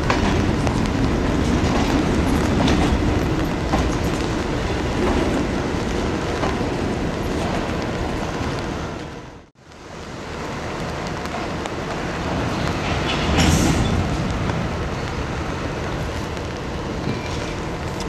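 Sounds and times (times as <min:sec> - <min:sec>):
freight train wheels rumbling on track: 0:00.0 - 0:18.0.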